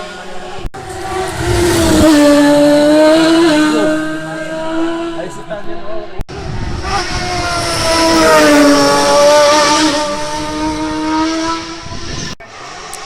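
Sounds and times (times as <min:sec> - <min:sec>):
race car engine passing by: 0:00.0 - 0:05.5, 0:06.3 - 0:13.0.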